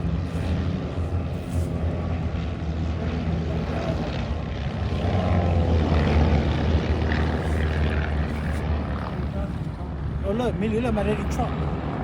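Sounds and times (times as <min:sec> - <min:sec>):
propeller airplane engines droning: 0:00.0 - 0:12.0.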